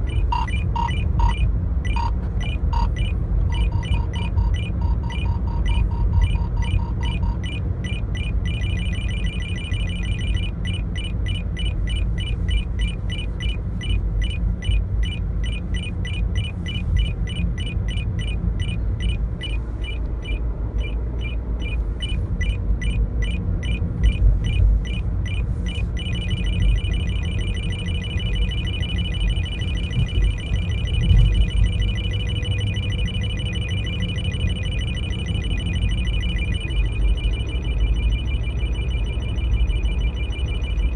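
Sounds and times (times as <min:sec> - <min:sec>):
low car rumble: 0:00.0 - 0:40.9
radar detector beeping: 0:00.0 - 0:40.9.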